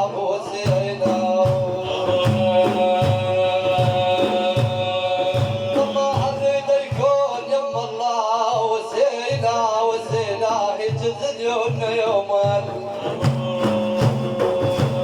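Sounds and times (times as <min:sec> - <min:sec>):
hand drum beat: 0:00.0 - 0:15.0
man singing religious praise: 0:00.0 - 0:15.0.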